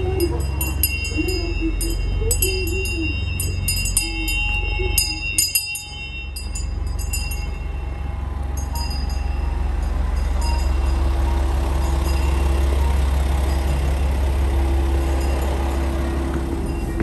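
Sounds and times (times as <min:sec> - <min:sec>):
bright tinkling bells: 0:00.0 - 0:17.0
low train rumble: 0:00.0 - 0:17.0
soft wavering tune: 0:00.0 - 0:17.0.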